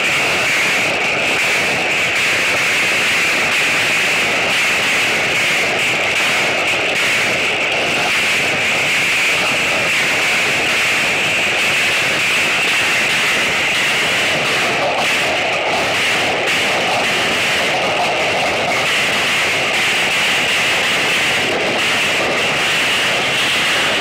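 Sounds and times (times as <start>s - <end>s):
hail and rain pelting: 0.1s - 24.0s.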